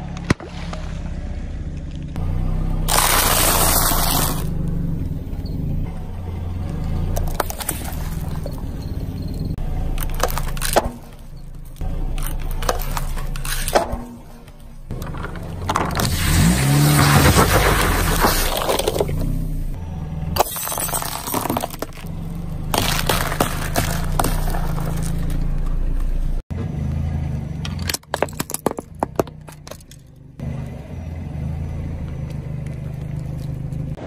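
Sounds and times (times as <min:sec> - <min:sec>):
car tyre crushing things: 0:00.0 - 0:26.5, 0:27.6 - 0:30.8.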